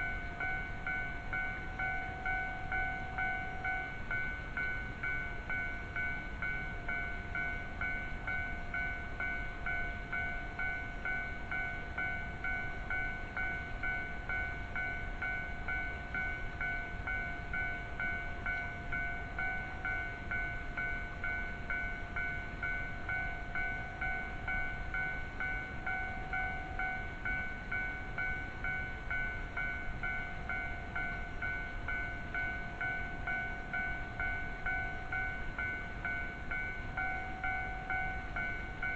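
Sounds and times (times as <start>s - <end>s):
level crossing warning bell ringing: 0.0s - 38.9s.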